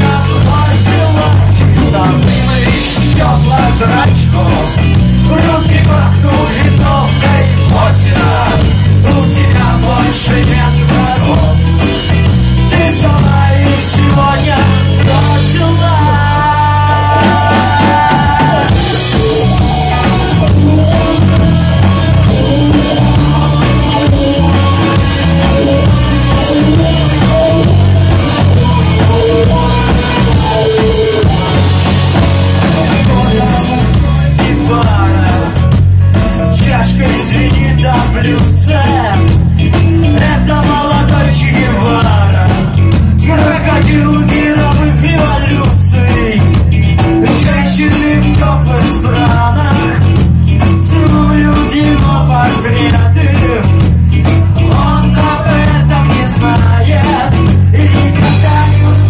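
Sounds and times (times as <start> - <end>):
live rock band: 0.0 - 59.0
person singing: 0.0 - 59.0.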